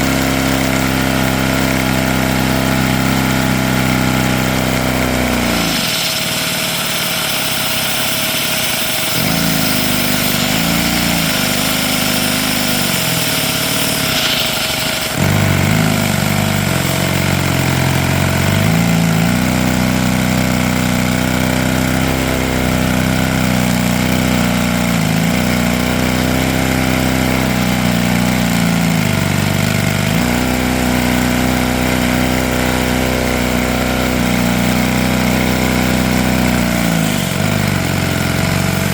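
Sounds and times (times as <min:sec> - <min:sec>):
toy vacuum engine humming: 0:00.0 - 0:38.9.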